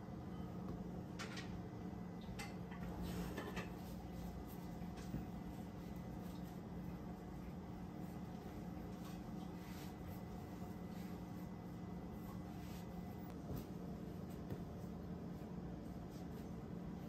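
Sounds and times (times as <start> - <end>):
low steady hum: 0.0 - 17.0
pastry dough rustling and crinkling: 3.0 - 17.0.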